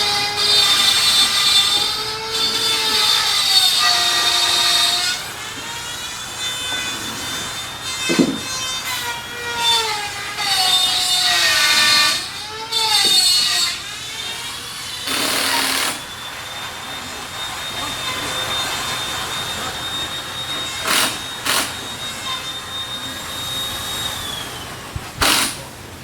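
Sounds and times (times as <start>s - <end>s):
power tool whining: 0.0s - 26.0s.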